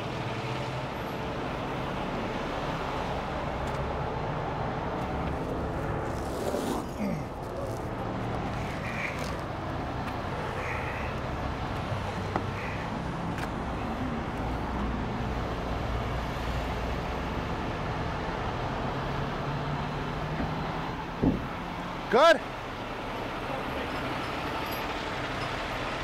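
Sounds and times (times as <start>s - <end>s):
freeway traffic: 0.0s - 26.0s.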